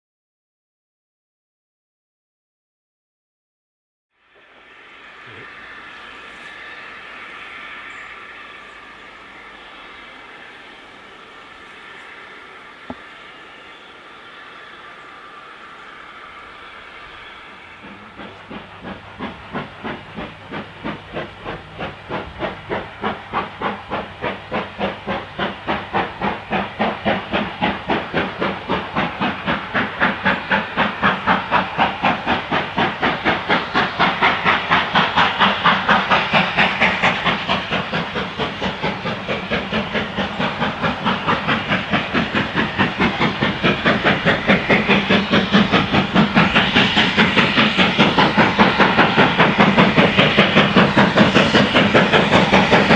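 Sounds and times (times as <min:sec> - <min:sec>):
steam hissing: 0:04.2 - 0:52.9
steam locomotive exhaust beating: 0:04.2 - 0:52.9.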